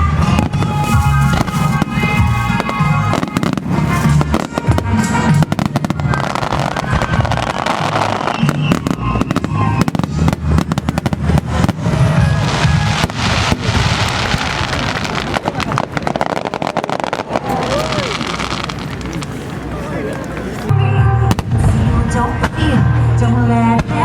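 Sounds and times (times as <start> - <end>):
deep rolling booms: 0.0 - 19.4
fireworks bangs and crackles: 0.0 - 20.7, 21.3 - 22.8.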